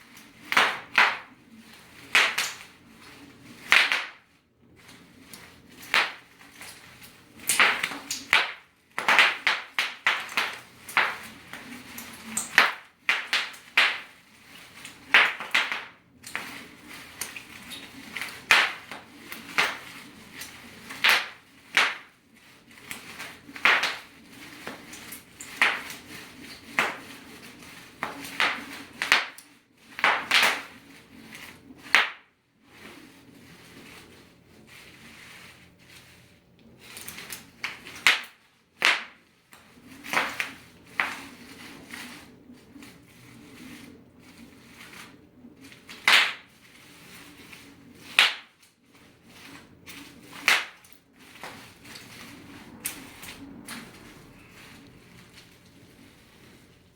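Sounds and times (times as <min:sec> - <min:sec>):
bubble wrap popping: 0:00.0 - 0:56.9
plastic rustling: 0:00.0 - 0:56.9.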